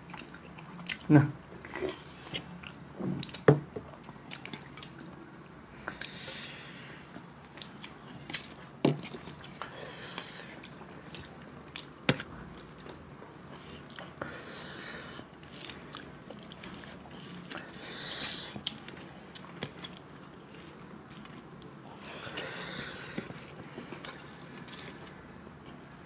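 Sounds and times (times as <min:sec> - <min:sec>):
quiet chewing: 0:00.0 - 0:26.0.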